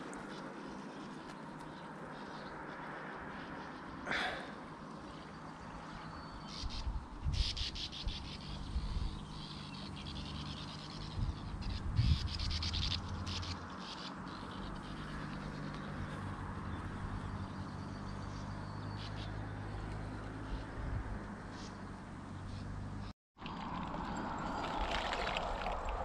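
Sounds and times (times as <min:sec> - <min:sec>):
birds chattering raspily: 0:00.0 - 0:23.1.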